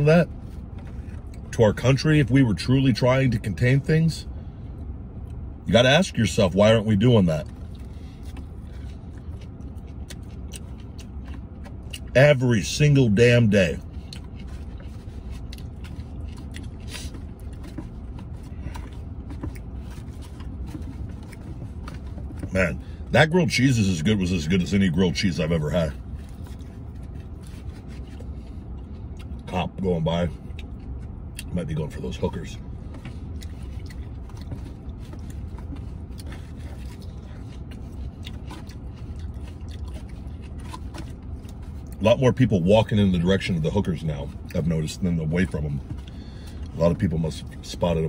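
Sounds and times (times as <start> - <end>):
steady low rumble: 0.0 - 48.0
chewing: 7.4 - 42.4, 43.4 - 48.0.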